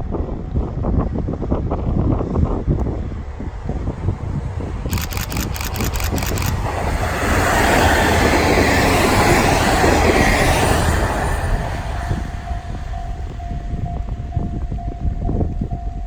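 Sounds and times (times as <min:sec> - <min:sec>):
train passing on rails: 0:00.0 - 0:16.0
steady tone: 0:02.9 - 0:16.0.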